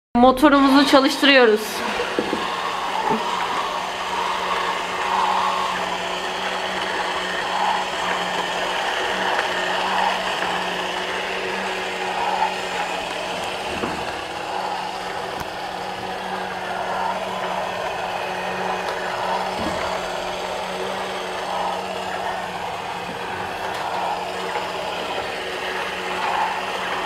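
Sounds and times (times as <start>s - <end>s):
model engine mechanical whirr: 0.4s - 27.0s.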